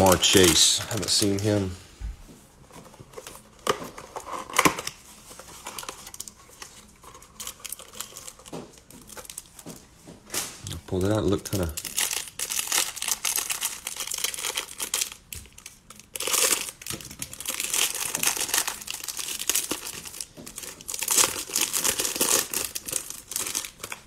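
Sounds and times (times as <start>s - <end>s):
plastic wrapper crinkling and tearing: 0.0s - 1.7s, 2.7s - 9.6s, 10.6s - 24.0s.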